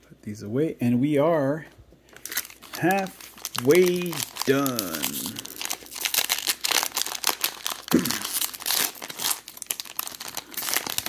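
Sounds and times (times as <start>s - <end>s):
plastic wrapper tearing and crinkling: 2.1s - 11.0s.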